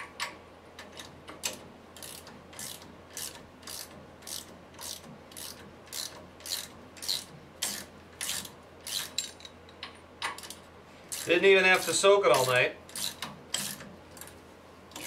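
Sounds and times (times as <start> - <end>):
hand ratchet clicking: 0.0 - 9.5, 10.2 - 15.0.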